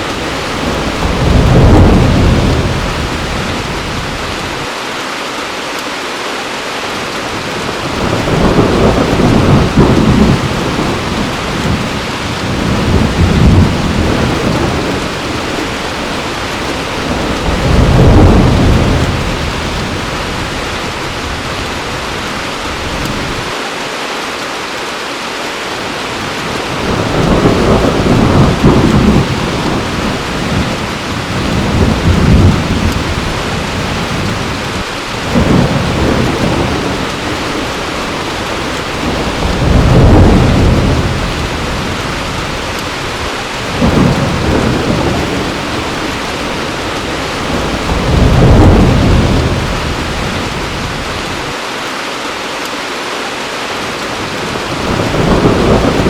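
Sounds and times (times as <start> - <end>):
thunder rumbling: 0.0 - 4.7, 7.3 - 23.6, 26.2 - 51.6, 54.0 - 56.0
heavy rain pouring: 0.0 - 56.0.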